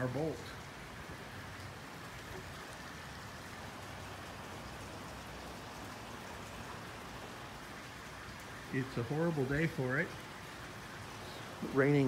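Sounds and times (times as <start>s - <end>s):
freezing rain hissing on pavement: 0.0s - 12.0s.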